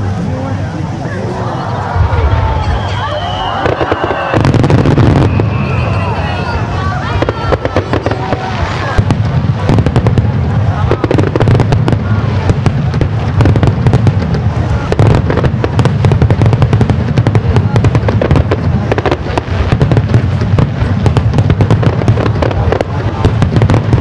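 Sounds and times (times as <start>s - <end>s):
deep rumble: 0.0s - 24.0s
fireworks bangs and crackles: 0.0s - 24.0s.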